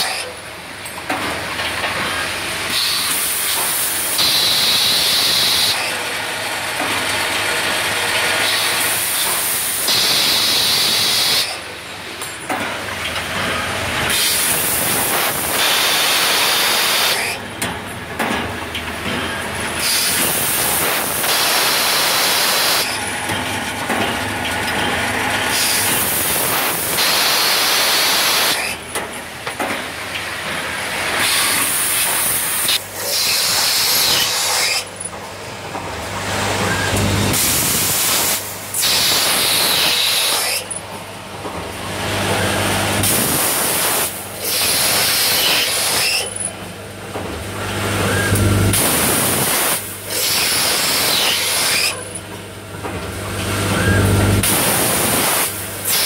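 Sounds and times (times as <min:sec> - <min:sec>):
machining machine running: 0:00.0 - 0:56.0.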